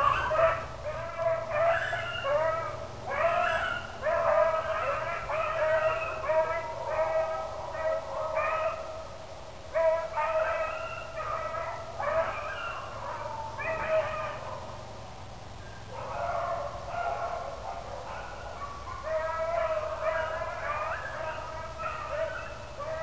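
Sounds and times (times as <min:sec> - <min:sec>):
hound dogs baying: 0:00.0 - 0:08.9, 0:09.8 - 0:14.8, 0:15.7 - 0:23.0.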